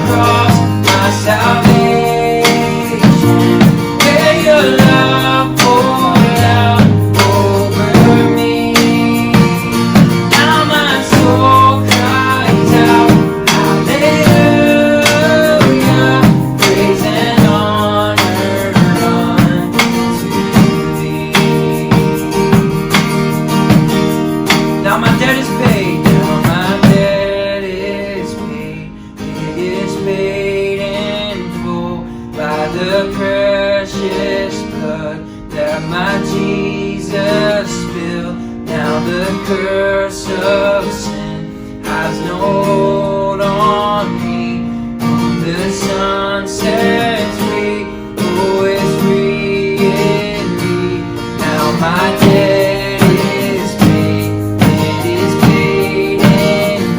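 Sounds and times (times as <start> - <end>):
strummed acoustic guitar: 0.0 - 56.9
worship band music: 0.0 - 56.9.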